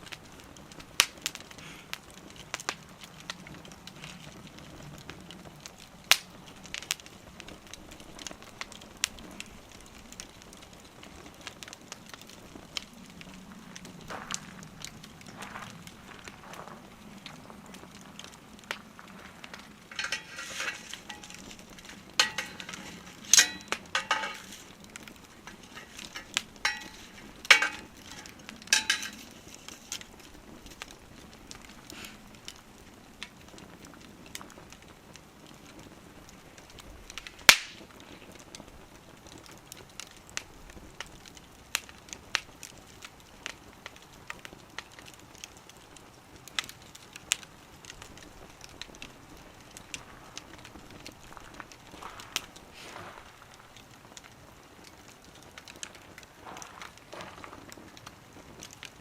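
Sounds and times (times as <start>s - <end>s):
sharp fire pops: 0.0s - 59.0s
wood fire crackling: 0.0s - 59.0s.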